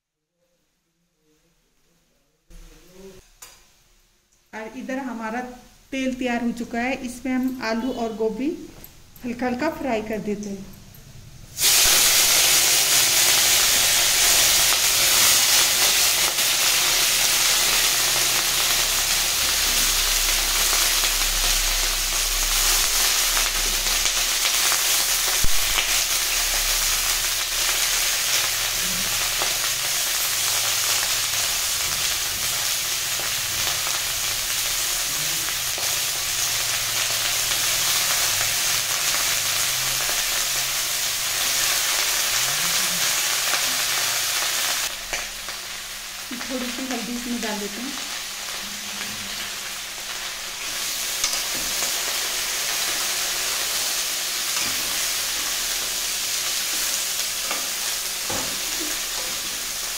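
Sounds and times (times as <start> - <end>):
vegetables sizzling in hot oil: 11.2 - 59.9.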